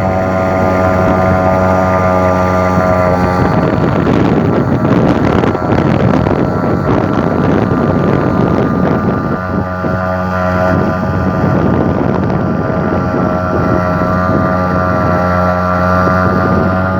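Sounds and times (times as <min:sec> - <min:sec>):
outboard motor running: 0:00.0 - 0:16.9
wind noise on microphone: 0:00.0 - 0:16.9.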